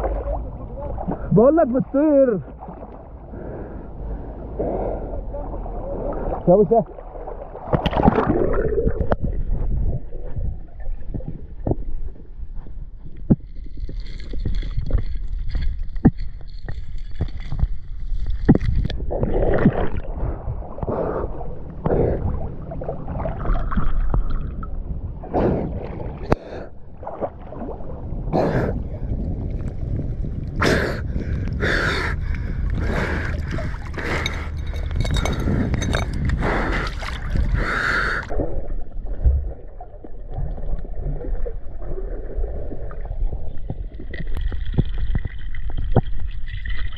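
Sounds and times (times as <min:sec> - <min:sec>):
low muffled rumble: 0:00.0 - 0:07.6, 0:08.6 - 0:46.1
water gurgling and splashing: 0:00.0 - 0:46.9.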